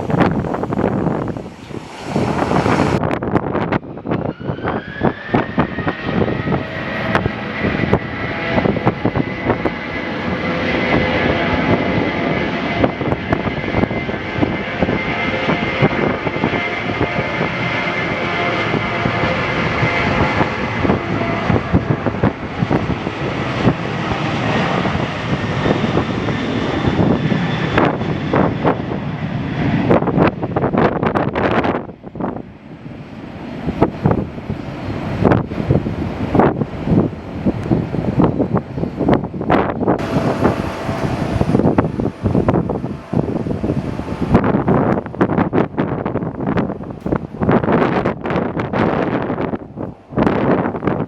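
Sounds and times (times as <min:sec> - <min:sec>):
jet engines spooling up: 0:00.0 - 0:51.0
wind buffeting microphone: 0:00.0 - 0:51.0.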